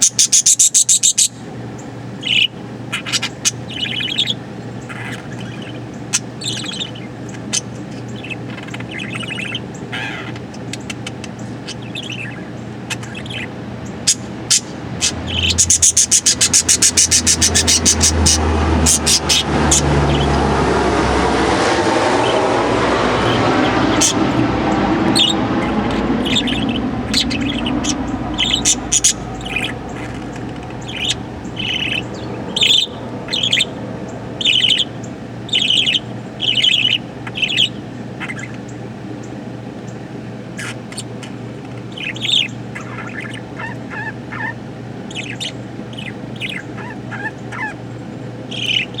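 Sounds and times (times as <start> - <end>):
budgerigar warbling chatter: 0.0 - 1.5, 2.2 - 20.8, 21.5 - 49.0
budgerigar chirping: 0.0 - 20.5, 22.2 - 39.4, 40.5 - 49.0.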